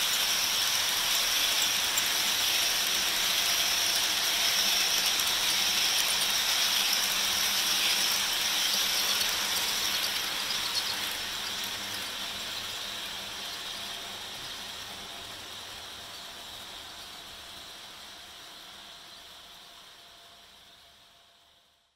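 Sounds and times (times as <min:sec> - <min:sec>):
model train wheels clattering: 0:00.0 - 0:19.4.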